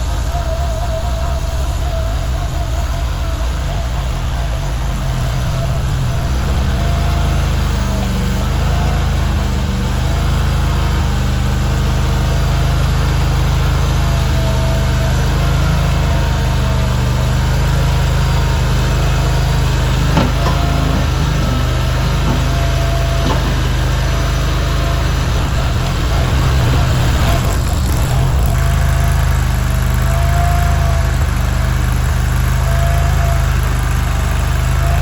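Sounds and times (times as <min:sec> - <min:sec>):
gasoline engine running: 0:00.0 - 0:35.0.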